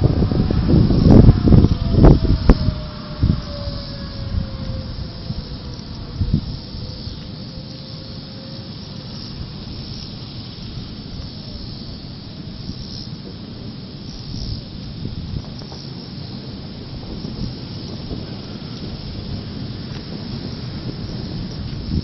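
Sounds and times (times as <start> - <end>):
distant warning siren: 0.0 - 22.0
wind rushing over microphone: 0.0 - 22.0.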